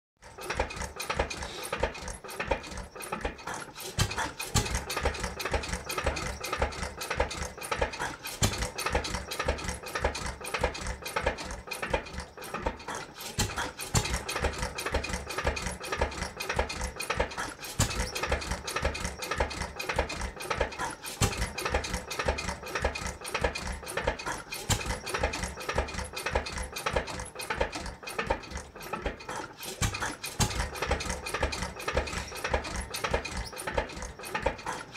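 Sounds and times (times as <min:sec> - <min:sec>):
stationary engine running: 0:00.2 - 0:34.9.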